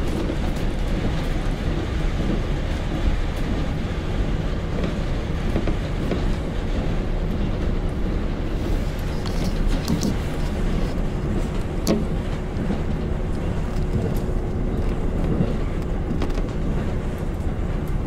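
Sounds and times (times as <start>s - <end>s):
diesel engine rumble: 0.0s - 18.0s
train wheels on rails: 0.0s - 18.0s.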